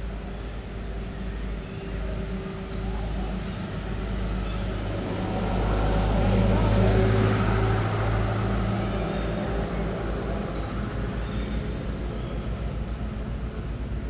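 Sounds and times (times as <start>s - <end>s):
low fluttering rumble: 0.0s - 14.0s
vehicle engine hum: 0.0s - 14.0s.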